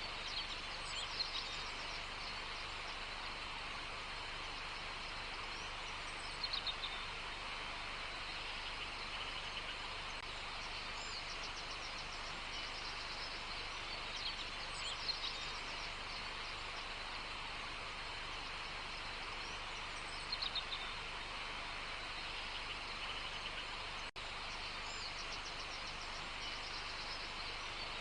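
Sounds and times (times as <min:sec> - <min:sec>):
outdoor ambience hiss: 0:00.0 - 0:28.0
small birds chirping: 0:00.0 - 0:28.0.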